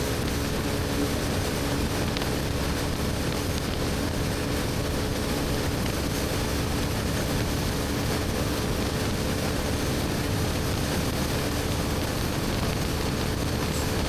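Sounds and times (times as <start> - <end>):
motorcycle engine cruising: 0.0 - 14.0
road noise: 0.0 - 14.0.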